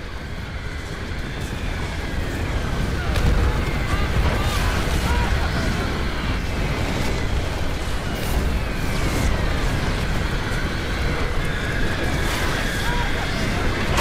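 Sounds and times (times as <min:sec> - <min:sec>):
tank engines rumbling: 0:00.0 - 0:14.0.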